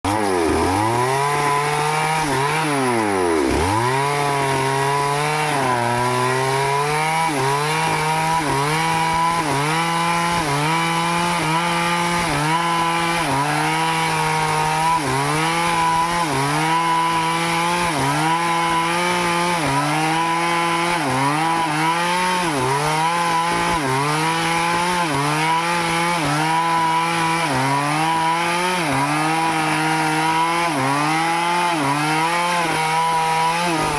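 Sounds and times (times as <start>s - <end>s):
chainsaw cutting a tree: 0.0s - 33.9s.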